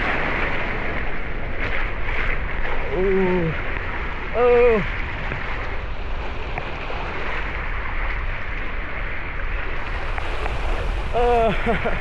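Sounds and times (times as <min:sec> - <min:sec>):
water rushing along a waterslide: 0:00.0 - 0:12.0
wind buffeting microphone: 0:00.0 - 0:12.0.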